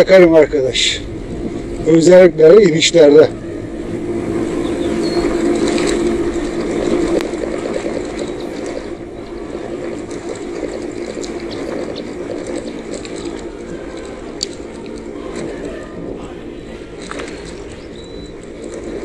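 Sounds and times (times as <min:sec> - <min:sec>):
bicycle tyres rumbling on pavers: 0:00.0 - 0:19.0
bike rattling: 0:00.0 - 0:19.0.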